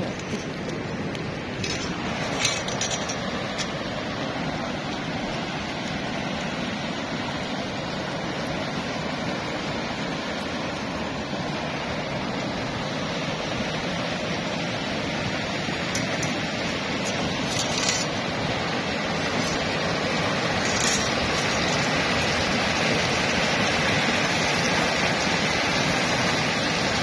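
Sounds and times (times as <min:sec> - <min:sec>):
flowing water rushing: 0:00.0 - 0:27.0.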